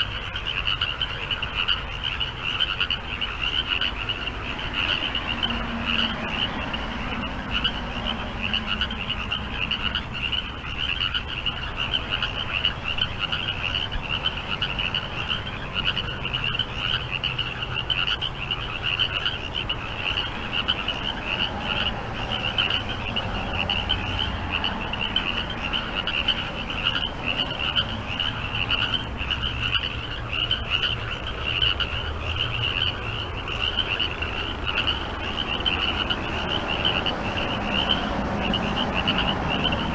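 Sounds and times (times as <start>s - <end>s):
high-pitched frog chorus: 0.0s - 39.9s
lower frog croaks: 0.0s - 39.9s.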